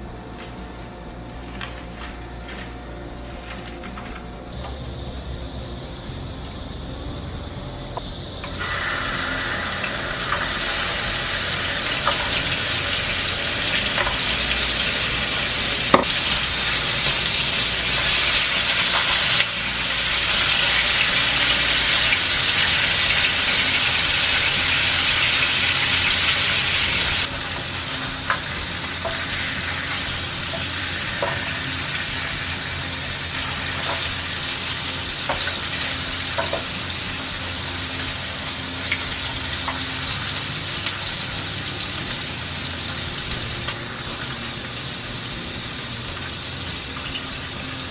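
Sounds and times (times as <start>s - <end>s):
fish sizzling in oil: 8.3s - 47.9s.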